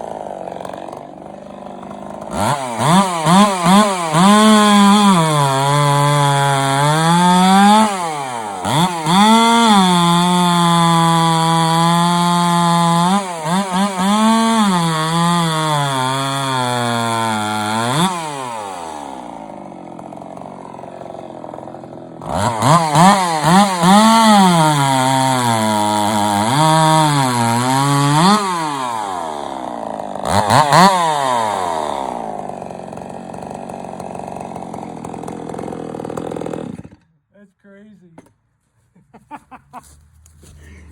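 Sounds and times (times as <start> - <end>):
chainsaw engine revving: 0.0 - 37.1.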